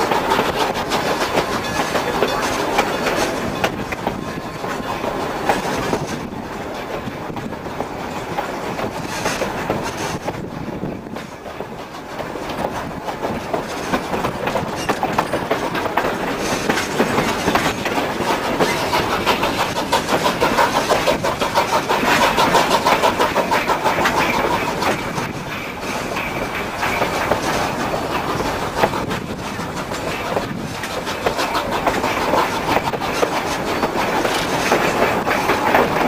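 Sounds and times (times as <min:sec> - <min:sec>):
rail car rattle and rumble: 0:00.0 - 0:36.0
train wheels clicking over rail joints: 0:00.0 - 0:36.0.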